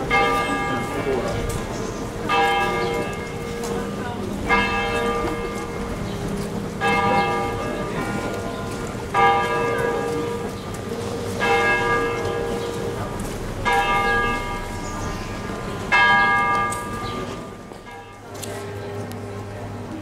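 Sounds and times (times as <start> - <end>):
large church bell tolling: 0.0 - 20.0.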